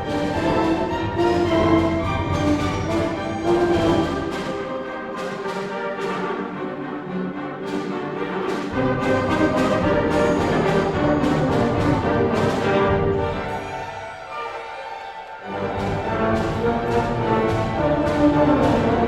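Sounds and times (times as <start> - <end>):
brass instruments: 0.0 - 19.0
low instruments: 0.0 - 19.0
strings: 0.0 - 19.0.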